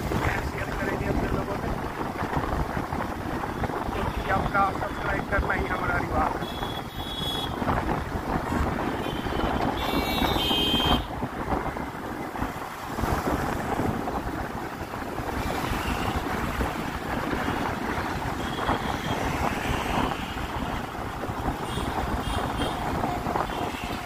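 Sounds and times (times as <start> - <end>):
engine and tyre noise: 0.0 - 24.0
road traffic: 0.0 - 24.0
wind buffeting microphone: 0.0 - 24.0.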